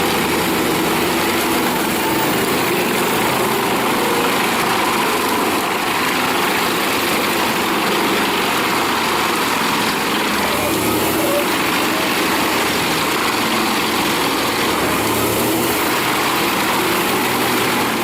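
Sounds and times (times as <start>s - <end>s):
wood chipper engine running: 0.0s - 18.0s.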